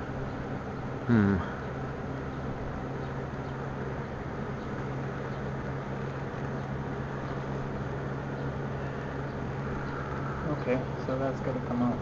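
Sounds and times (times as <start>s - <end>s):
steady low hum with hiss: 0.0s - 12.0s.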